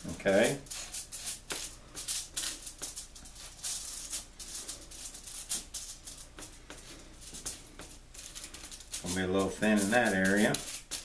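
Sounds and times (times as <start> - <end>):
aluminium foil crinkling: 0.2 - 6.6, 7.2 - 11.0.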